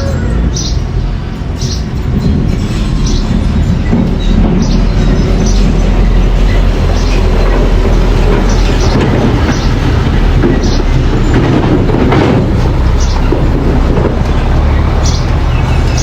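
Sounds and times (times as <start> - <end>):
bulldozer engine rumble: 0.0 - 16.0
steel tracks clanking and squealing: 0.0 - 16.0.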